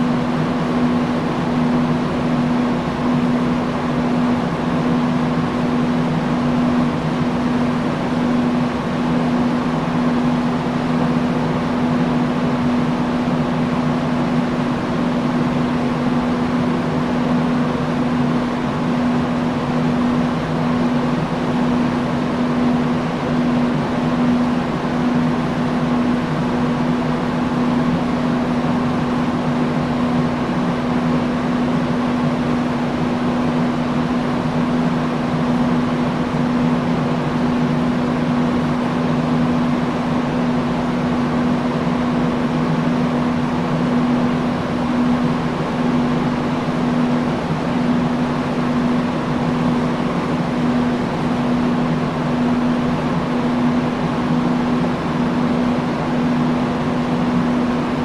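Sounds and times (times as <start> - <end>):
industrial fan air rush: 0.0 - 58.0
low motor hum: 0.0 - 58.0.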